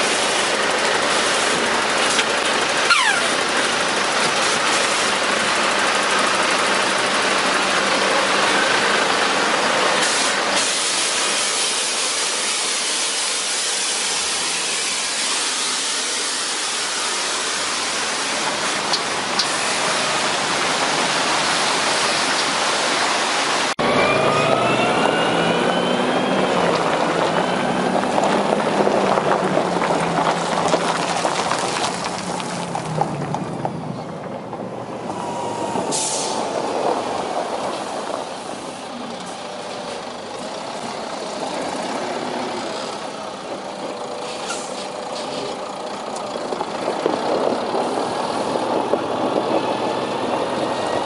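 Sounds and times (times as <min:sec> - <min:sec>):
truck engine running under load: 0:00.0 - 0:51.0.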